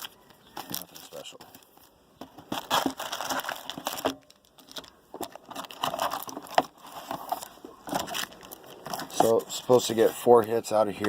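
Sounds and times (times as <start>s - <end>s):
trading cards rustling: 0.0s - 11.0s.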